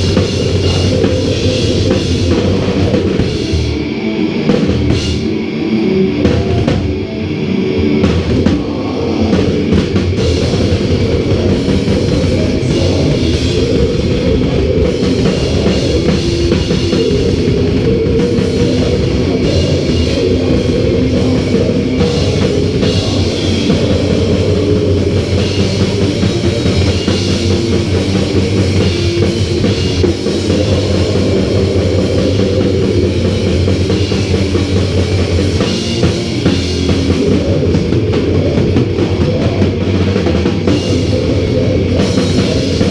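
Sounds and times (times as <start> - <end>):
distorted guitars: 0.0 - 42.9
drum kit: 0.0 - 42.9.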